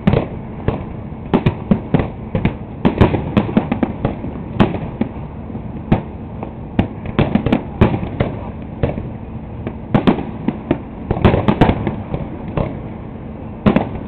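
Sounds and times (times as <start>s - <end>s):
fireworks bangs: 0.0s - 14.0s
steady rumble: 0.0s - 14.0s.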